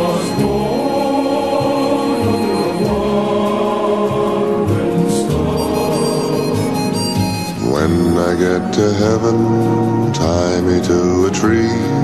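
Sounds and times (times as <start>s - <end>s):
choir singing held chords: 0.0s - 12.0s
orchestral accompaniment: 0.0s - 12.0s.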